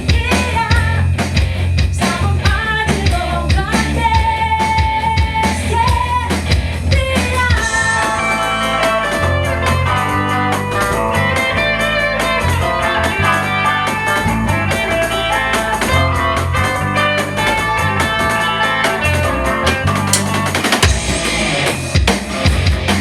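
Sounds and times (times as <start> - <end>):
guitar: 0.0 - 23.0
instrumental rock band: 0.0 - 23.0.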